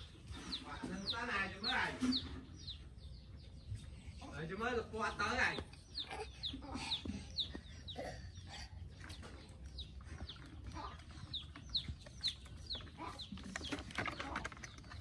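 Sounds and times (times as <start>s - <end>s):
chick peeping: 0.0s - 14.2s.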